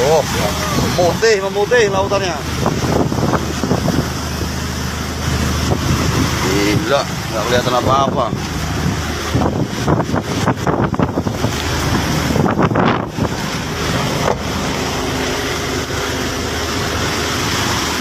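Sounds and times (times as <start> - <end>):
boat engine running: 0.0 - 18.0
rough sea: 0.0 - 18.0
strong wind buffeting microphone: 0.0 - 18.0.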